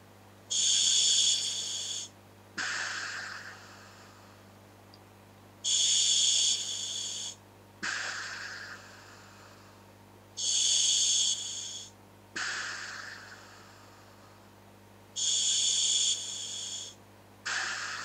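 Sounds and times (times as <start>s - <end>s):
breathing through regulator hiss: 0.5s - 4.5s, 5.6s - 14.5s, 15.2s - 18.0s
quieter breath: 0.5s - 4.5s, 5.7s - 14.5s, 15.2s - 18.0s.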